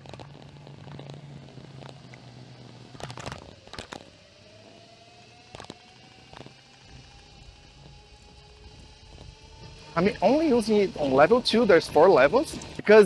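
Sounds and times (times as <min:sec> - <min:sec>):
electric skate motors whining: 0:00.0 - 0:13.0.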